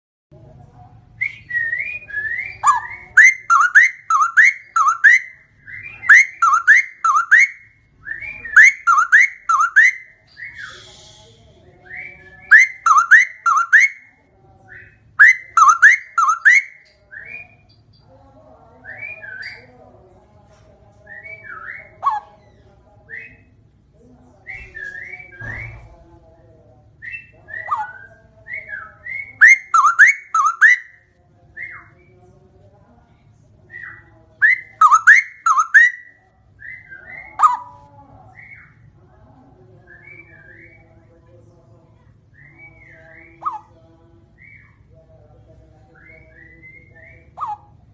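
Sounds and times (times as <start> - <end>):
bird singing fluty phrases: 1.2 - 20.2, 21.0 - 26.0, 26.9 - 39.0, 39.7 - 45.1.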